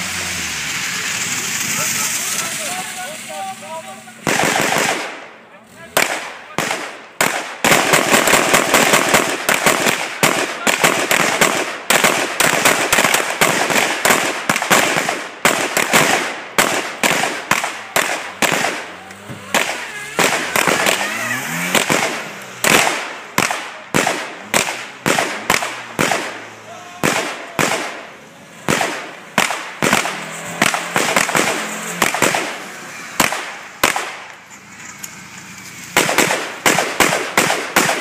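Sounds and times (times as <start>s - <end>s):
rapid gunfire: 4.2s - 5.3s, 6.0s - 34.3s, 35.9s - 38.0s.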